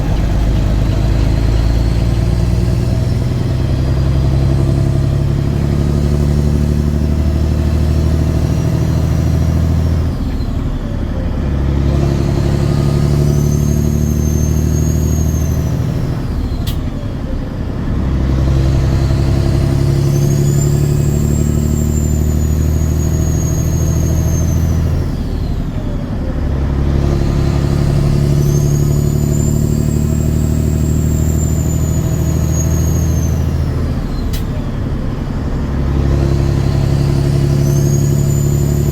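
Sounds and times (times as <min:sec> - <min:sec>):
diesel truck engine accelerating: 0:00.0 - 0:38.9.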